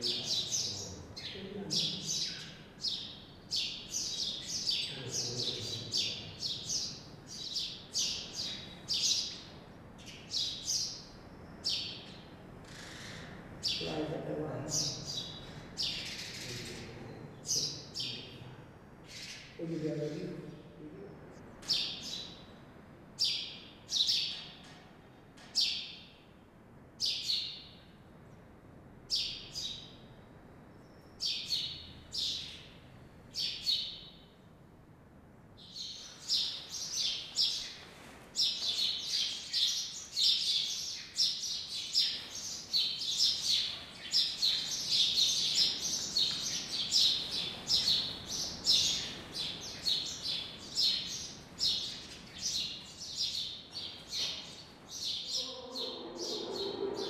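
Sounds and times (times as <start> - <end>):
small birds chirping: 0.0 - 22.6, 23.2 - 26.3, 29.1 - 34.3, 35.6 - 57.0.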